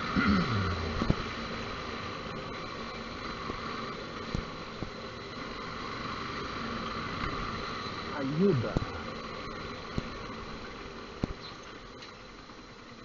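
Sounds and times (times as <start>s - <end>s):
motorcycle engine hum: 0.0s - 13.0s
wind and road noise: 0.0s - 13.0s.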